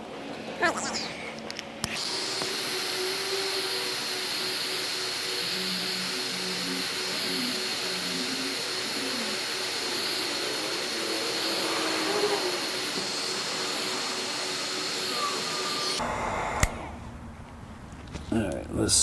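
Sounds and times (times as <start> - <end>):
hot-air blower running: 0.9 - 16.9.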